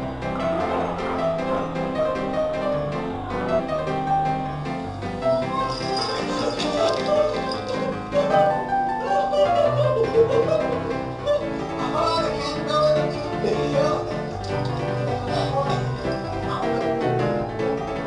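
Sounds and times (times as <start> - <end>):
instrumental music with short notes: 0.0 - 18.0.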